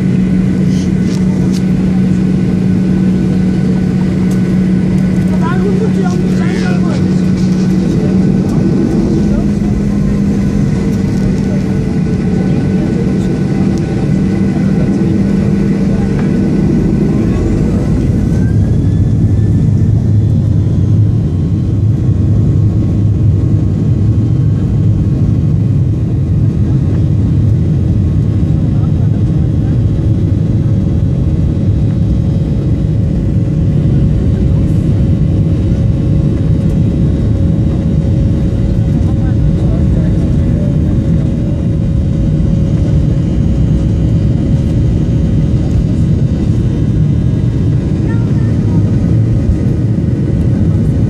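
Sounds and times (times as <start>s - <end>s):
jet engines roaring: 0.0s - 51.0s
low hum: 0.0s - 51.0s.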